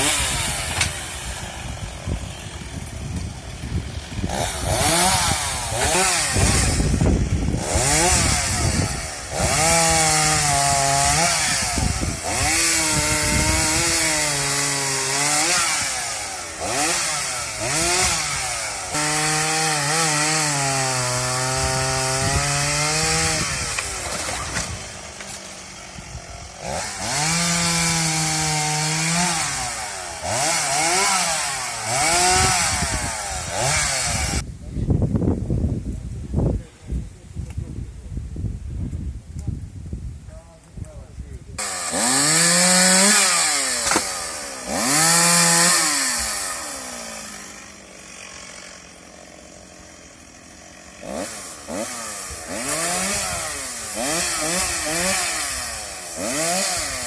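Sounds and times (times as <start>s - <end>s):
chainsaw cutting wood: 0.0s - 34.4s, 41.6s - 57.0s.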